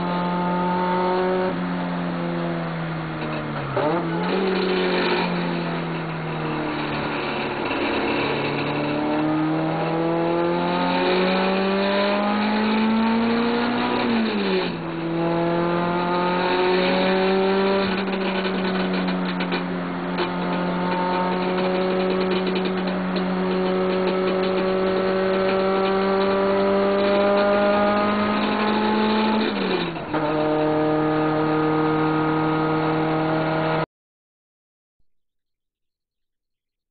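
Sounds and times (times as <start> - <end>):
car engine revving through gears: 0.0 - 33.9.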